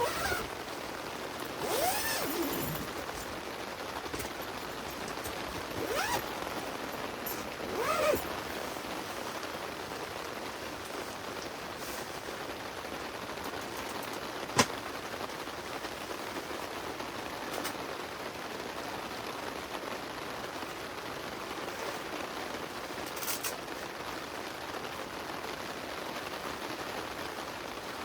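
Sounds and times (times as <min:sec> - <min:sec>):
rain falling on tent fabric: 0:00.0 - 0:28.0.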